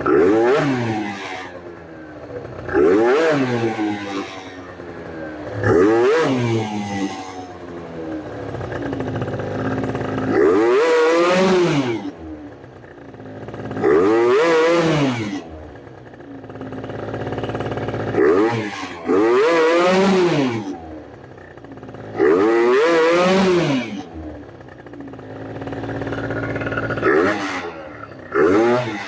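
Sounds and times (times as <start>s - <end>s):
scooter engine revving: 0.0s - 29.0s.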